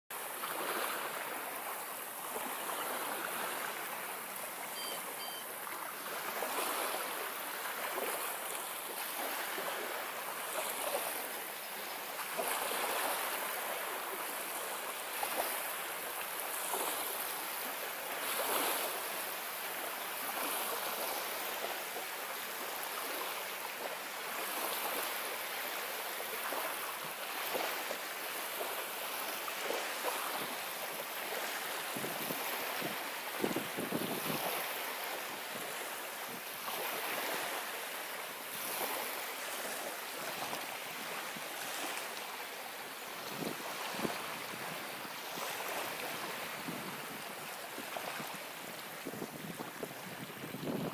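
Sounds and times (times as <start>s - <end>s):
small waves lapping on pebbles: 0.1s - 50.9s.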